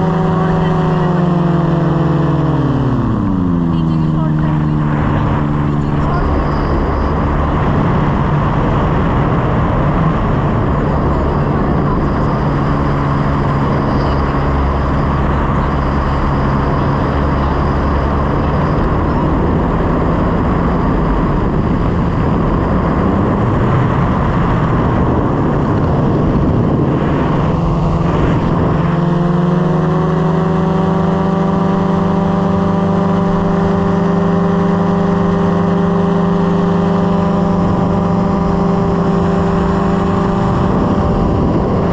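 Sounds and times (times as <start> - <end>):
light aircraft engine and propeller: 0.0 - 41.9.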